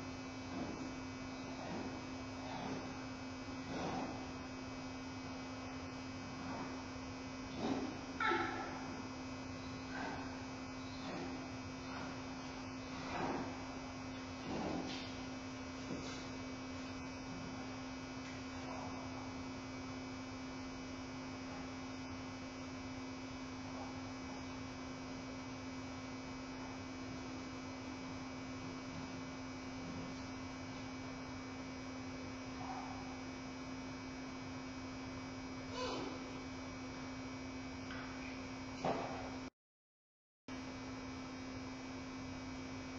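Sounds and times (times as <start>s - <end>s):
electrical hum: 0.0s - 39.5s, 40.5s - 42.9s.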